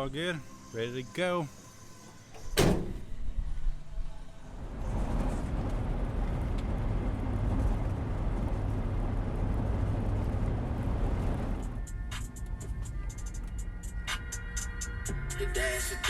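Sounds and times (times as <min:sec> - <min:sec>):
van engine rumble and road noise: 0:00.0 - 0:16.0.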